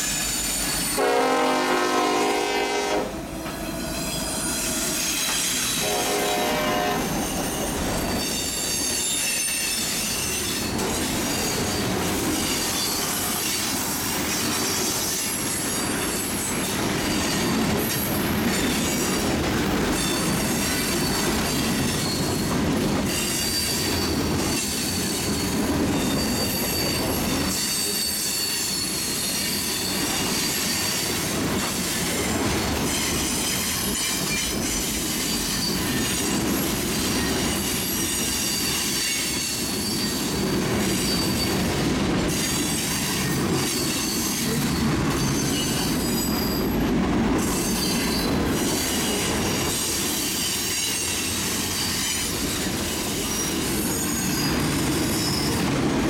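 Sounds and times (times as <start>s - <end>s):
freight train cars rumbling: 0.0s - 56.0s.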